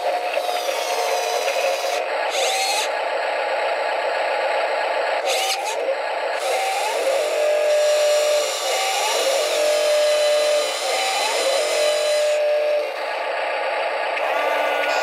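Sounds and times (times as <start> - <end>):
toy loader mechanical whine: 0.0 - 15.0.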